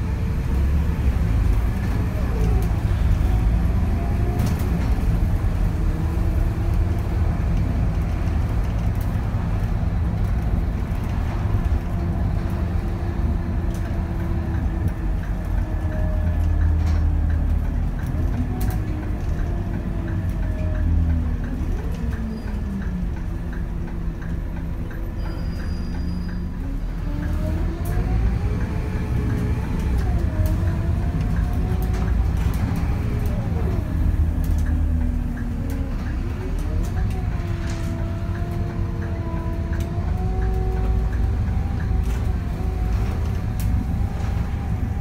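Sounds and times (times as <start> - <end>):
bus diesel engine running: 0.0 - 45.0.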